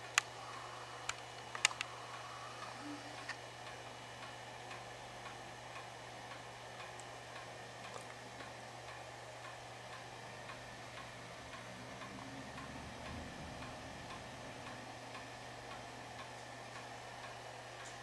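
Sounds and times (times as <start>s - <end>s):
faint regular ticking: 0.0s - 18.0s
projector low hum: 0.0s - 18.0s.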